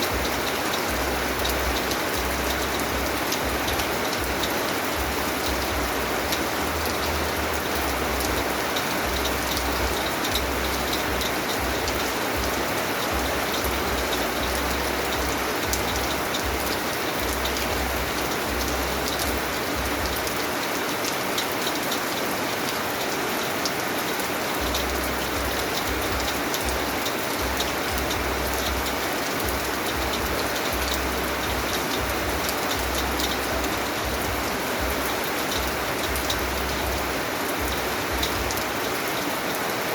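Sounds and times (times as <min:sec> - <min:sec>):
drops ticking: 0:00.0 - 0:22.1, 0:24.0 - 0:39.3
steady rain hiss: 0:00.0 - 0:39.9.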